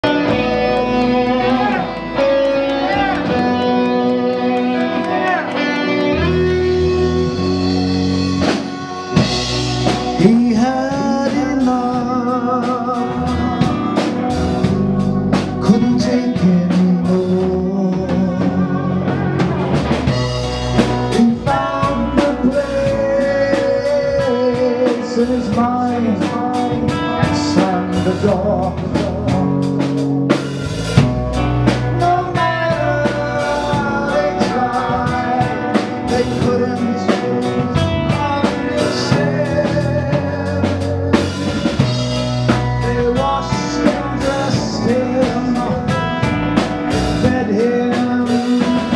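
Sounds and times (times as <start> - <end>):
man singing with vibrato: 0.0 - 30.0, 31.4 - 48.9
drum beat: 0.0 - 48.9
heavy metal band playing: 0.0 - 48.9.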